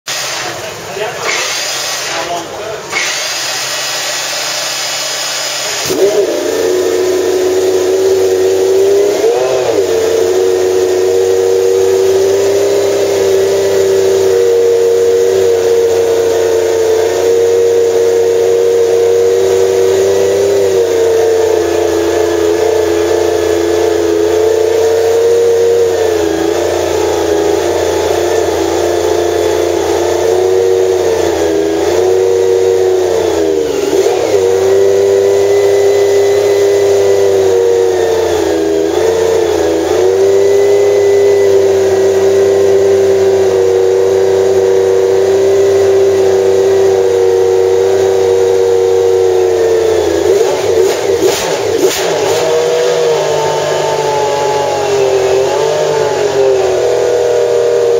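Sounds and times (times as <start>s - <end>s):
racing car engine idling: 0.2s - 57.9s.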